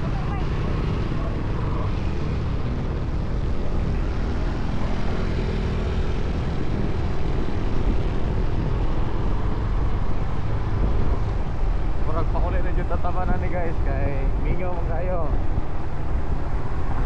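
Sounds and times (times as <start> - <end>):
motorcycle engine drone: 0.0 - 17.0
wind rumble on microphone: 0.0 - 17.0.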